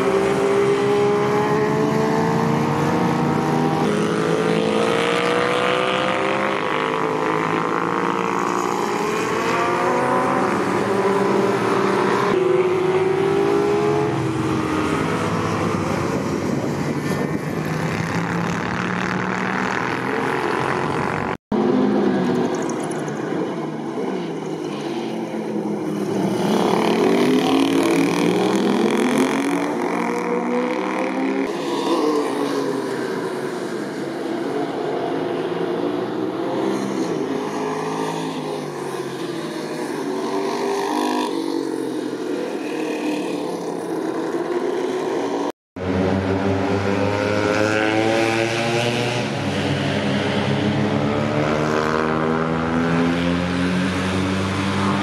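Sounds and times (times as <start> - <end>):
motorcycles accelerating and passing: 0.0 - 55.0.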